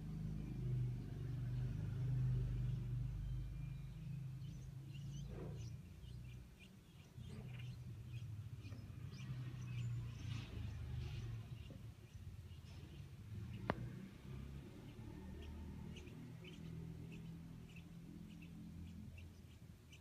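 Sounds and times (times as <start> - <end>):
low mechanical hum: 0.0 - 20.0
nestling birds begging chirps: 0.0 - 20.0.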